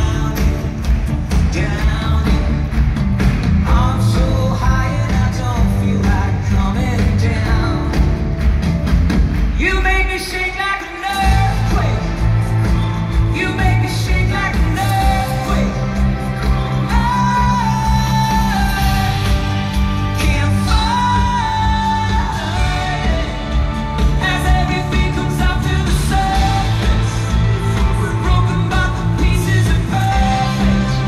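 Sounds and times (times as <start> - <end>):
male lead vocal: 0.0 - 8.6, 9.3 - 31.0
live pop-rock band: 0.0 - 31.0.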